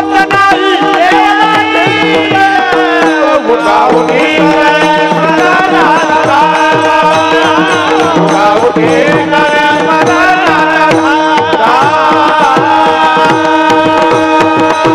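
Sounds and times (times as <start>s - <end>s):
harmonium held note: 0.0s - 14.9s
tabla strokes: 0.0s - 14.9s.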